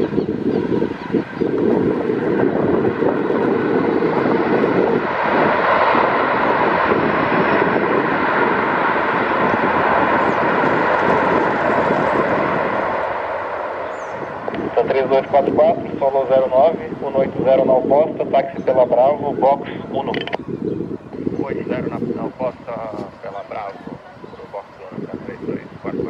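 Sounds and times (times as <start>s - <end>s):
jet engines rushing: 0.0s - 26.0s.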